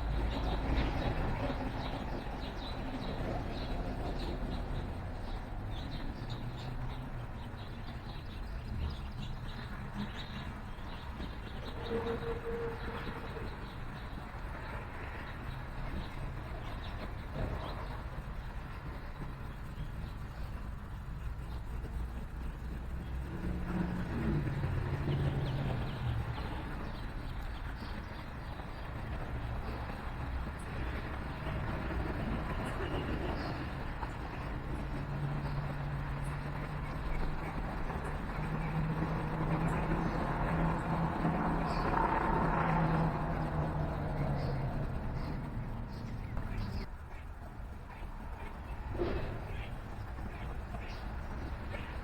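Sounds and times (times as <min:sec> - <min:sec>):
distant city traffic rumble: 0:00.0 - 0:52.0
songbirds chirping: 0:00.0 - 0:52.0
vehicle passing: 0:00.0 - 0:52.0.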